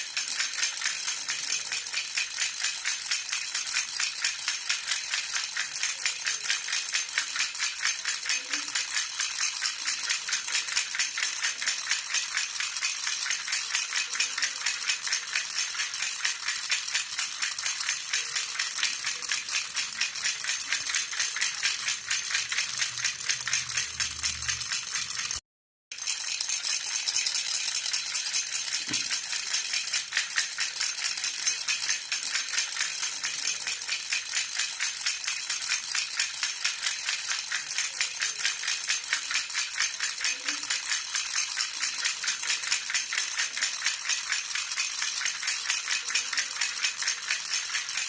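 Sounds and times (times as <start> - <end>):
baby rattle jingling: 0.0 - 25.4, 26.0 - 48.0.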